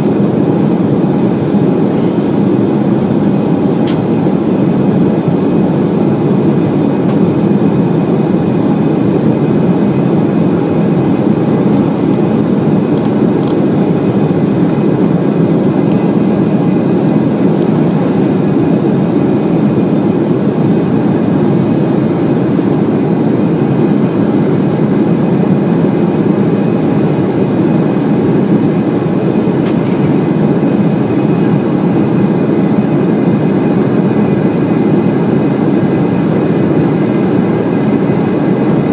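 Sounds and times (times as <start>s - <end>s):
airflow rushing over fuselage: 0.0s - 38.9s
jet engine drone: 0.0s - 38.9s.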